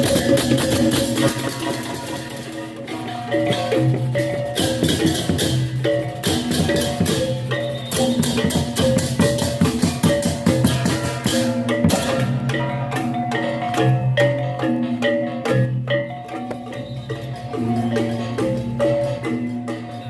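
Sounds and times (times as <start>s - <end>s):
gong-chimes in fast patterns: 0.0s - 20.0s.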